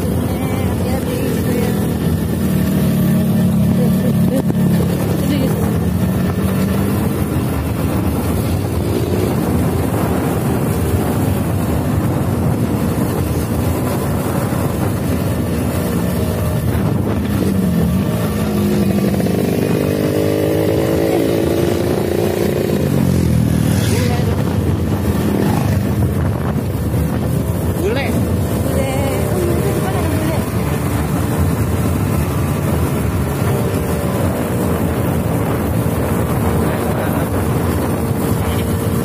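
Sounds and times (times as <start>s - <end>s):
motorcycle engine running: 0.0s - 39.0s
wind rushing over microphone: 0.0s - 39.0s.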